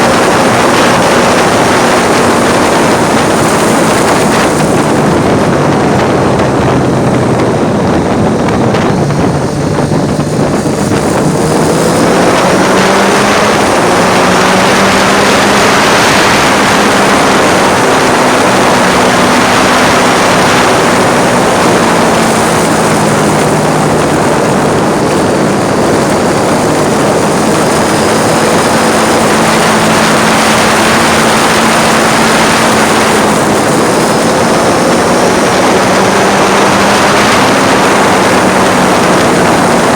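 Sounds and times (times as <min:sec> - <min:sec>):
heavy wind noise: 0:00.0 - 0:39.9
motorcycle engine revving: 0:00.0 - 0:39.9.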